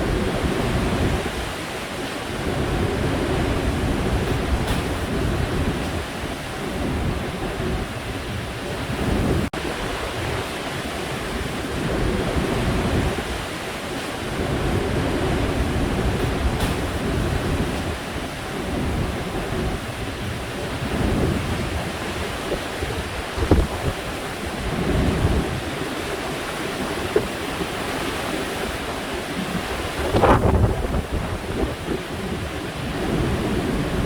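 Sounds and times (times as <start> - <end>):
waves roaring: 0.0 - 34.0
wind buffeting microphone: 0.0 - 34.0.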